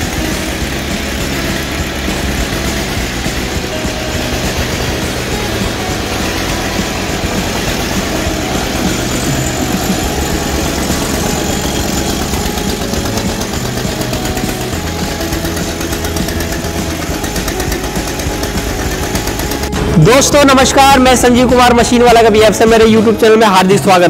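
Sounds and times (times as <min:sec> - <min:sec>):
single-cylinder diesel engine running: 0:00.0 - 0:24.0.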